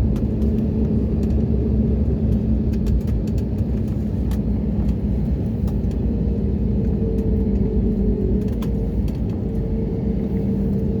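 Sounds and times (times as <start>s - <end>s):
cabin low rumble: 0.0s - 11.0s
engine hum: 0.0s - 11.0s.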